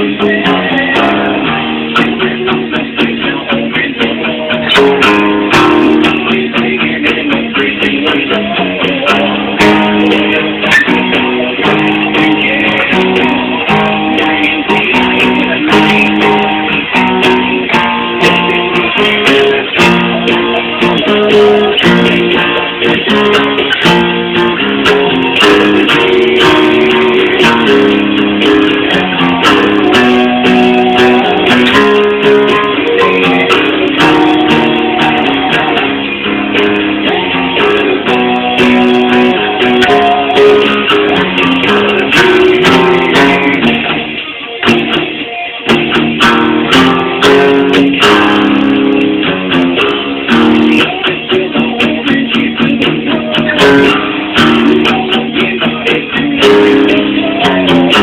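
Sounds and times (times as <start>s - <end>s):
metal rhythm guitar riffing: 0.0s - 58.0s.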